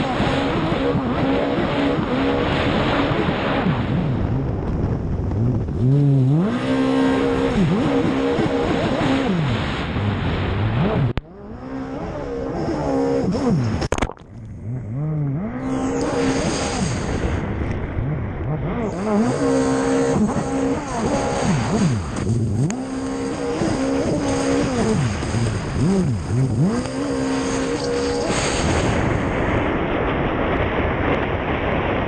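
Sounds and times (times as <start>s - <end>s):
wind and water spray: 0.0s - 14.7s, 15.4s - 32.0s
jet ski engine revving: 0.0s - 29.8s.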